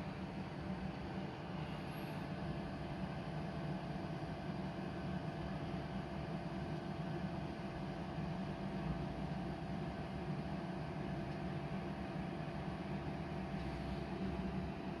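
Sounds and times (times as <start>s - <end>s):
air fryer fan whirring: 0.0s - 15.0s.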